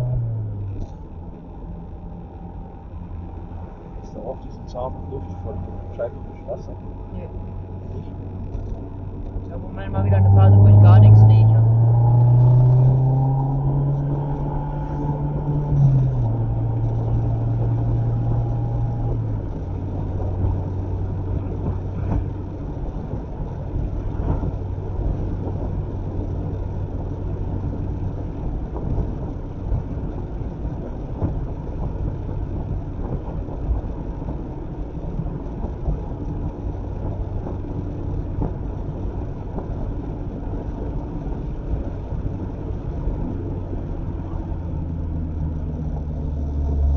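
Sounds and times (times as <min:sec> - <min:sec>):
car engine while driving: 0:00.0 - 0:46.9
road noise inside car: 0:00.0 - 0:46.9.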